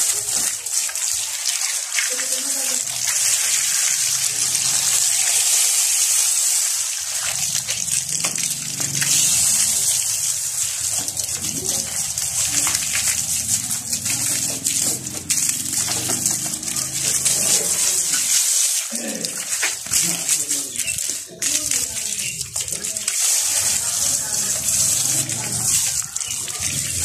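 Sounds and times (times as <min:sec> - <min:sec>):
hose water spraying on motorcycle: 0:00.0 - 0:27.0.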